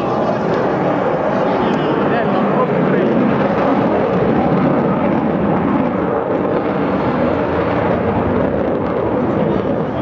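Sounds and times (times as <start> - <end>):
fighter jet engines rumbling: 0.0 - 10.0.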